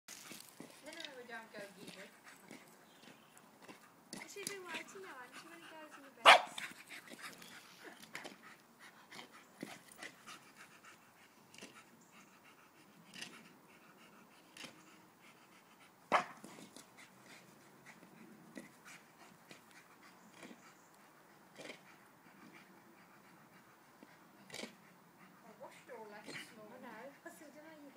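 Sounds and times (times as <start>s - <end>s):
dog panting and snuffling: 0.1s - 27.9s.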